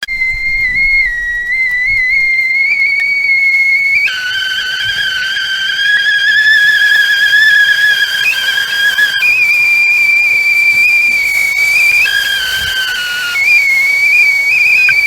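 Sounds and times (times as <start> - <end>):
kettle whistling: 0.0 - 15.0.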